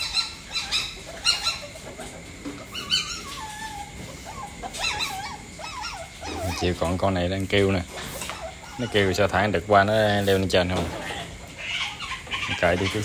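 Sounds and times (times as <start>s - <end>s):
civets squeaking calls: 0.0s - 2.1s, 2.7s - 6.9s, 8.1s - 13.0s.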